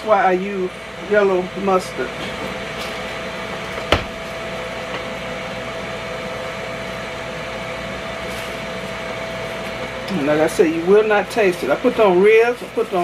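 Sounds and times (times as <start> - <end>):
fan hum with faint whine: 0.0 - 13.0.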